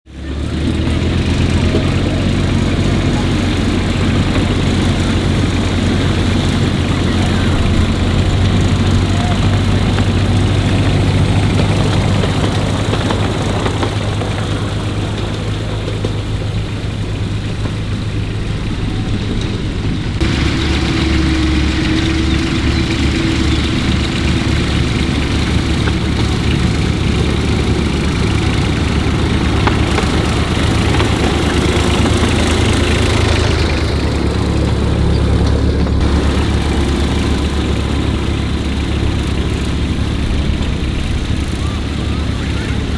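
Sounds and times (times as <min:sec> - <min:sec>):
small engine running: 0:00.1 - 0:42.9.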